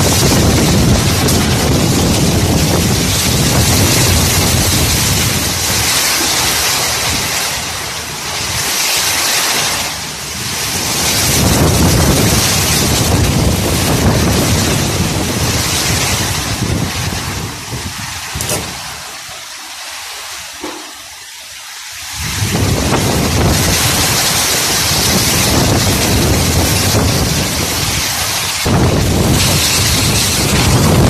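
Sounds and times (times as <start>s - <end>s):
strong wind gusts on microphone: 0.0s - 19.3s, 22.0s - 31.0s
heavy rain hiss: 0.0s - 31.0s.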